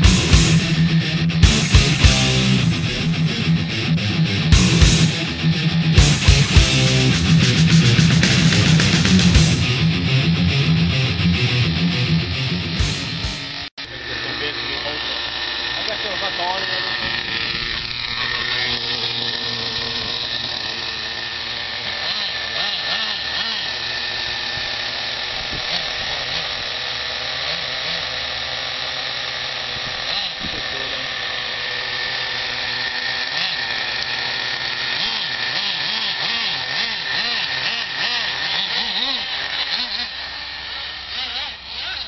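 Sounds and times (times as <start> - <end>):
small engines idling buzz: 0.0 - 42.0.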